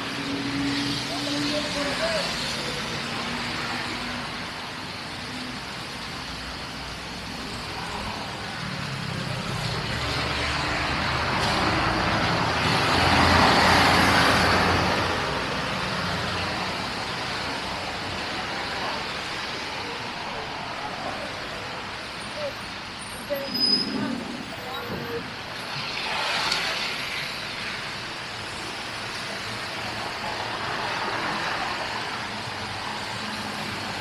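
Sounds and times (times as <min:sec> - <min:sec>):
traffic noise: 0:00.0 - 0:34.0.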